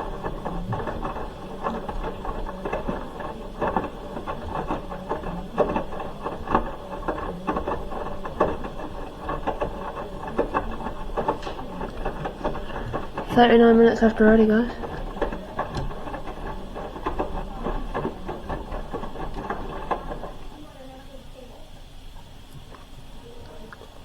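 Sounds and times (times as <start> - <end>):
load knocking and sloshing: 0.0 - 24.0
washing machine drum turning: 0.0 - 24.0
washing machine low hum: 0.0 - 24.0.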